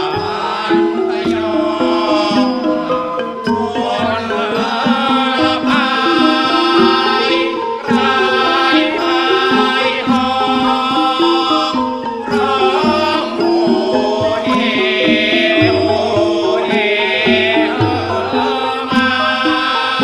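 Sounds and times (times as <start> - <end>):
hand drums beating: 0.0 - 20.0
melodic line of held notes: 0.0 - 20.0.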